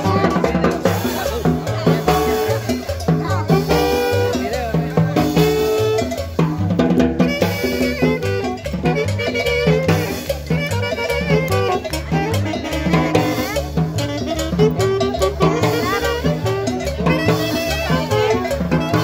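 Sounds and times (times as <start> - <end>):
salsa dance music: 0.0 - 19.0.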